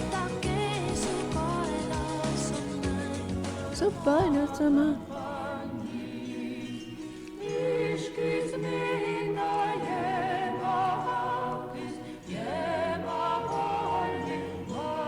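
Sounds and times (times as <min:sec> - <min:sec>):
choir singing a cappella: 0:00.0 - 0:15.0.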